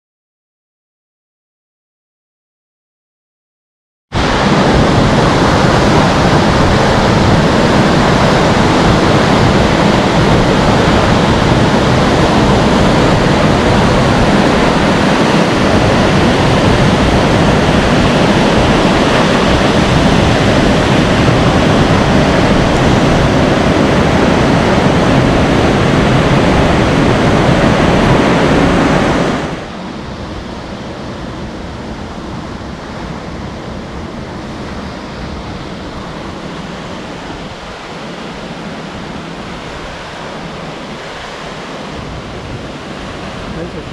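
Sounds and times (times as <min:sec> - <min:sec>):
waterfall roaring: 0:04.2 - 0:43.9.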